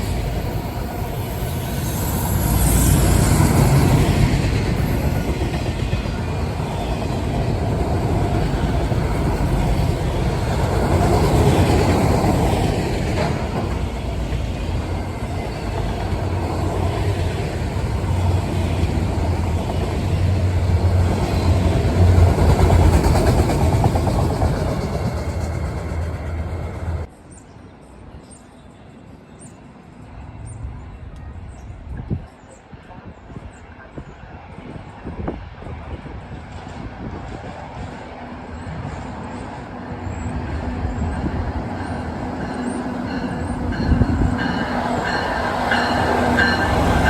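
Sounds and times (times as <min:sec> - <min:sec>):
freight train rumbling past: 0:00.0 - 0:47.0.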